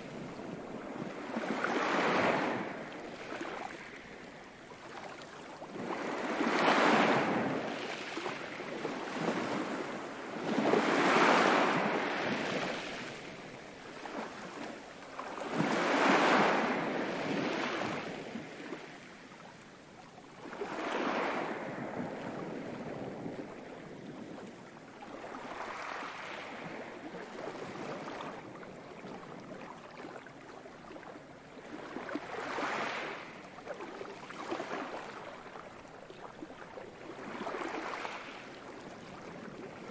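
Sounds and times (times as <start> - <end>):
ocean waves breaking: 0.0 - 19.2, 20.4 - 31.0, 31.6 - 39.9.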